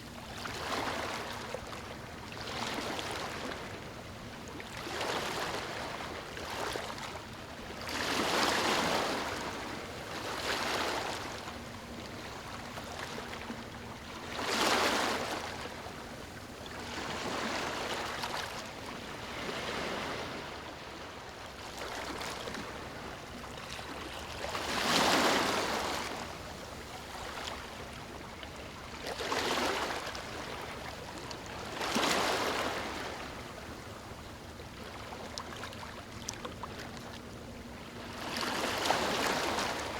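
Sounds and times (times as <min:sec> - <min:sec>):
small waves lapping on beach: 0:00.0 - 0:39.9.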